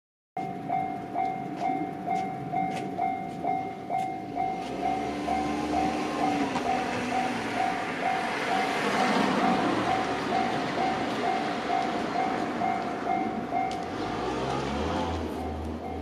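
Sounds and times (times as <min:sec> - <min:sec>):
level crossing alarm ringing: 0:00.4 - 0:14.2
train rumble: 0:00.4 - 0:16.0.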